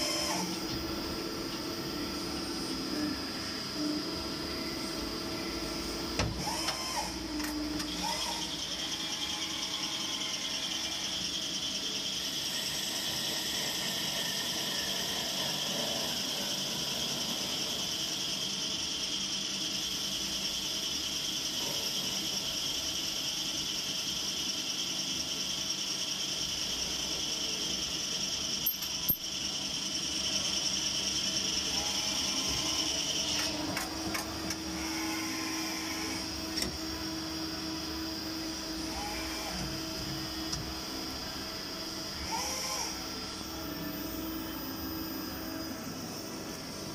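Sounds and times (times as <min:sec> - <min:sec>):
lathe high whine: 0:00.0 - 0:46.9.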